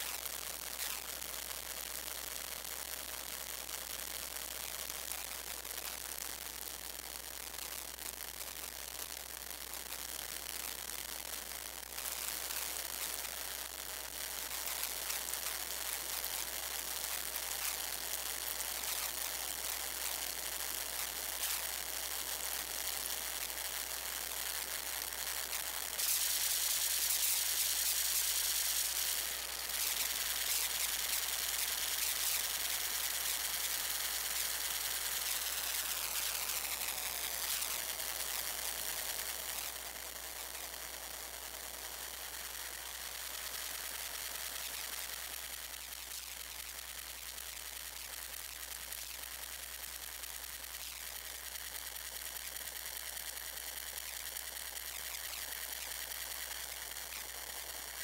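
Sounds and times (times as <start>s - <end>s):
synthesizer static-like hiss: 0.0s - 58.0s.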